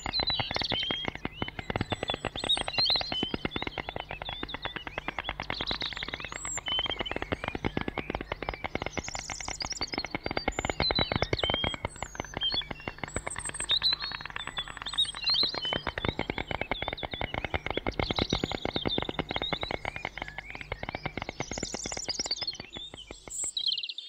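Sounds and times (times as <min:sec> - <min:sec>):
storks clattering bills: 0:00.0 - 0:23.7.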